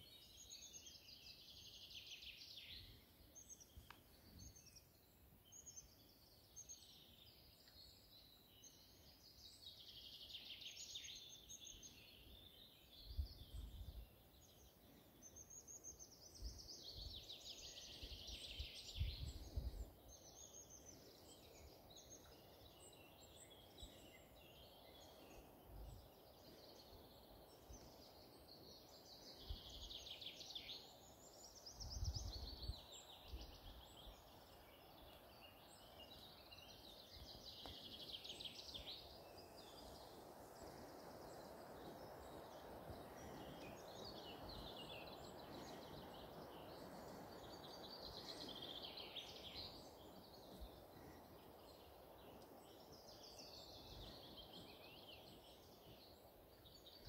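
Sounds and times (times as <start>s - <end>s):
faint songbird song: 0.0s - 57.0s.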